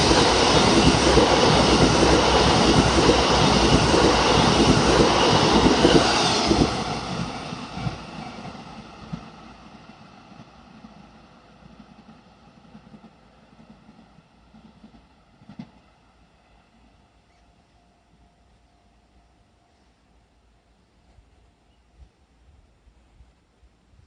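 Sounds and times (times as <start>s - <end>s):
subway train wheels on rails: 0.0s - 24.0s.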